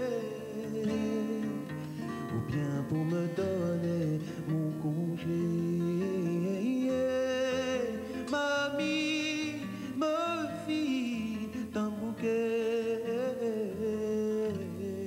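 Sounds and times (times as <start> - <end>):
acoustic guitar: 0.0 - 15.0
man singing with vibrato: 0.0 - 15.0.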